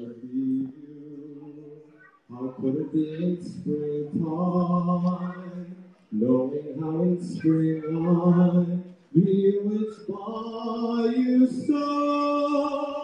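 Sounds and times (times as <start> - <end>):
boy singing into a microphone: 0.0 - 13.0.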